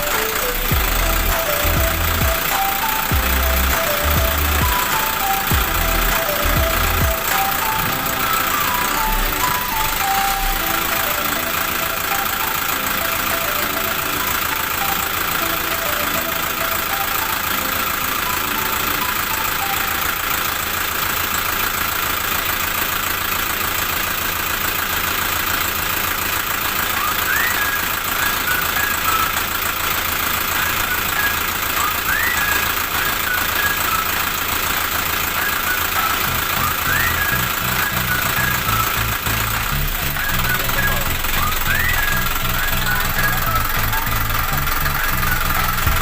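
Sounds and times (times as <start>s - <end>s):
steady machine noise: 0.0s - 46.0s.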